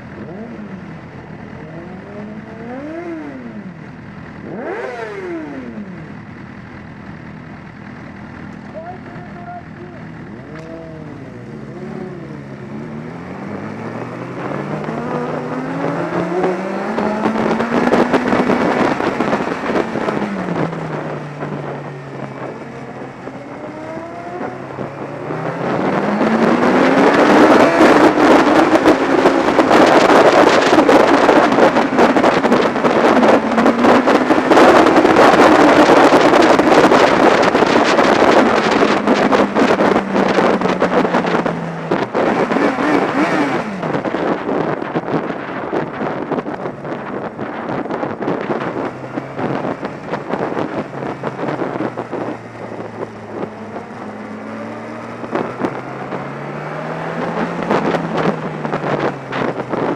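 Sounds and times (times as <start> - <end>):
motorcycle engine accelerating: 0.0 - 59.9
wind rushing over microphone: 0.0 - 59.9.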